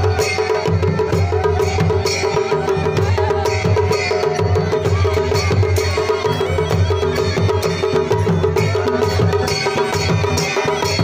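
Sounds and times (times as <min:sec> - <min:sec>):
dhol drumming: 0:00.0 - 0:11.0
hand cymbals clashing: 0:00.0 - 0:11.0.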